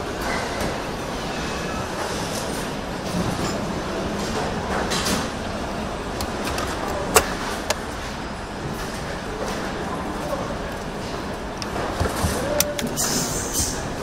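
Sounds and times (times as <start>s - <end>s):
assembly hall hum and clatter: 0.0s - 14.0s.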